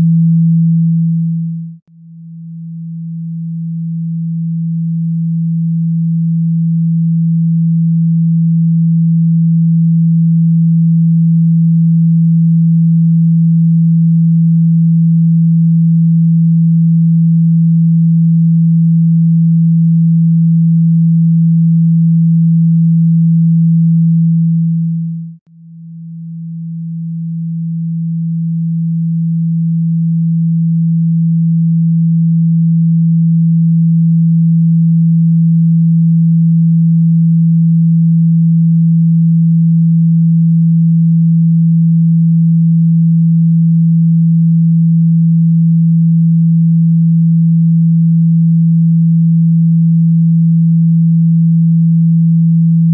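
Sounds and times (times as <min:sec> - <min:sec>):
steady low pure tone: 0:00.0 - 0:52.9.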